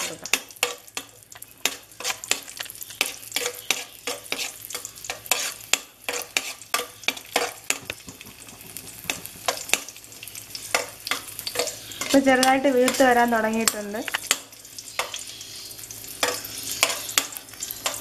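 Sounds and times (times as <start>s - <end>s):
spoon scraping and knocking pan: 0.0s - 15.4s, 16.1s - 18.0s
frying sizzle: 0.0s - 18.0s.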